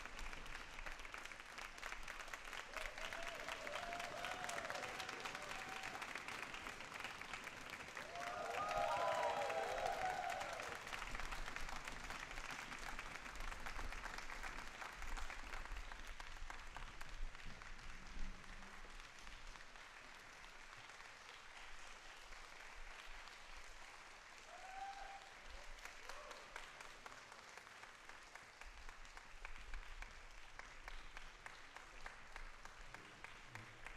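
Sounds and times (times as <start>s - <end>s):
audience applauding: 0.0s - 33.9s.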